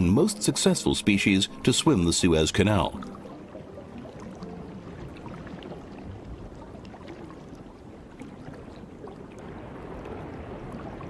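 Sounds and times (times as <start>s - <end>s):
underwater watery rush: 0.0s - 11.0s.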